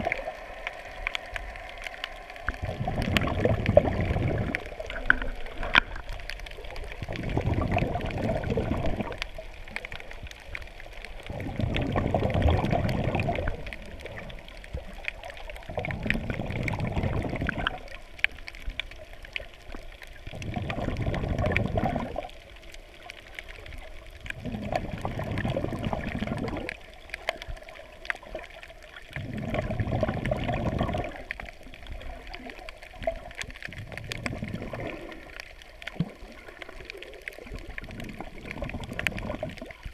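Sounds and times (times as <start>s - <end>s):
faint ticking crackles: 0.0s - 39.9s
underwater water rushing and gurgling: 0.0s - 39.9s.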